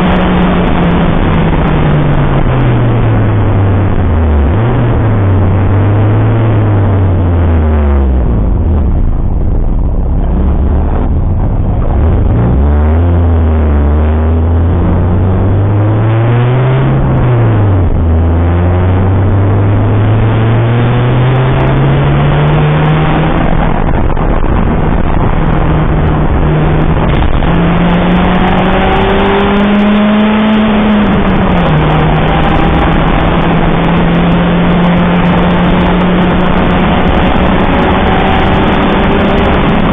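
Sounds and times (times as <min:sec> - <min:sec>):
car engine revving with upshifts: 0:00.0 - 0:39.9
wind and road noise: 0:00.0 - 0:39.9.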